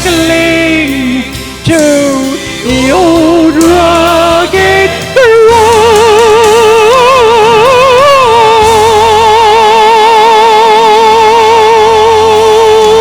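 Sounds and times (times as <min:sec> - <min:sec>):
instrumental accompaniment: 0:00.0 - 0:13.0.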